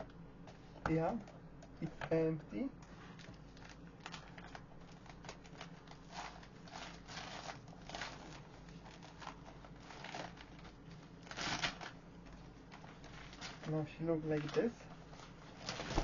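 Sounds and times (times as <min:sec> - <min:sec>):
thin plastic vinyl crinkling: 0:02.8 - 0:16.0.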